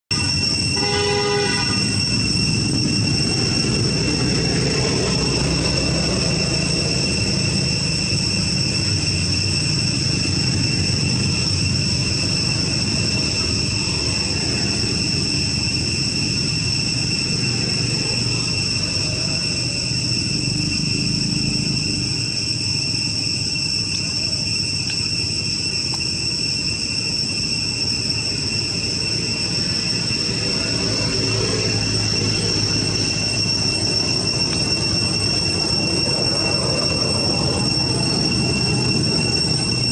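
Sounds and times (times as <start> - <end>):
high insect whine: 0.1 - 39.9.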